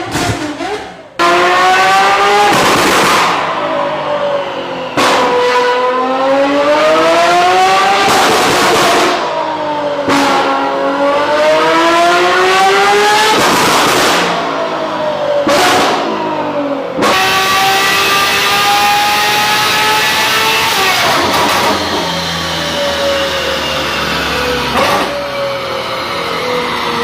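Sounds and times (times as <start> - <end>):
sports car engine revving: 0.0 - 27.0.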